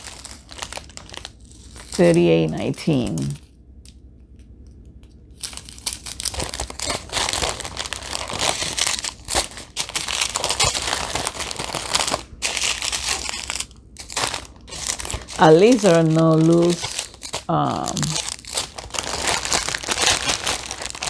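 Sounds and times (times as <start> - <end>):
plastic bags crinkling: 0.0 - 3.5, 5.3 - 21.0.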